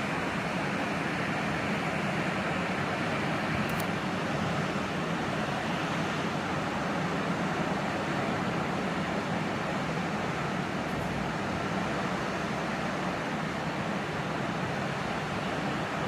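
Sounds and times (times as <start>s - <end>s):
sea surf rushing: 0.0s - 16.0s.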